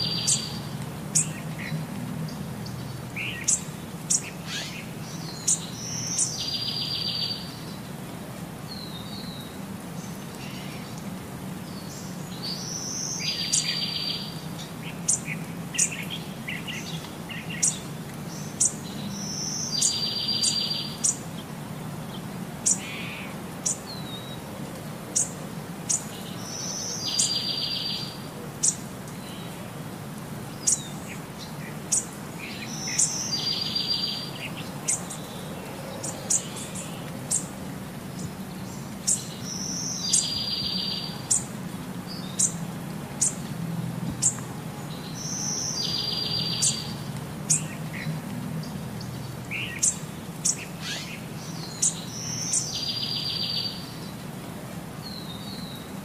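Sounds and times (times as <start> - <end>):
birds chirping: 0.0 - 7.9, 11.7 - 24.4, 25.1 - 29.6, 30.4 - 54.2.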